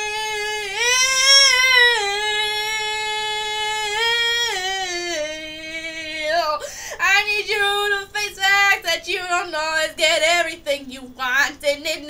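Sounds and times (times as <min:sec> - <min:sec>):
woman singing wordless notes: 0:00.0 - 0:12.0.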